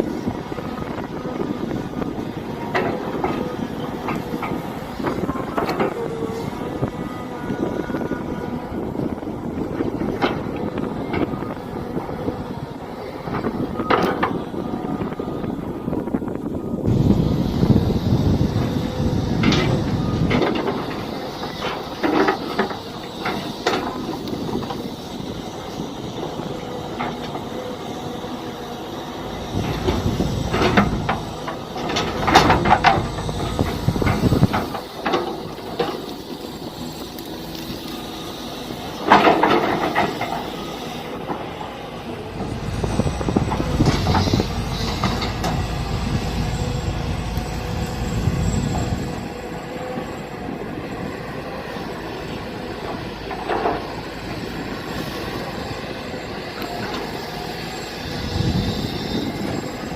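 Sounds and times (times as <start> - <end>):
excavator engine and hydraulic drone: 0.0 - 59.9.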